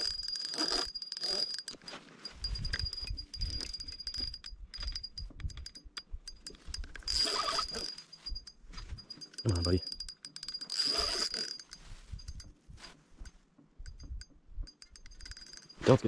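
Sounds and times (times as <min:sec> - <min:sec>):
fishing reel clicking and whining: 0:00.0 - 0:12.5, 0:13.8 - 0:15.9.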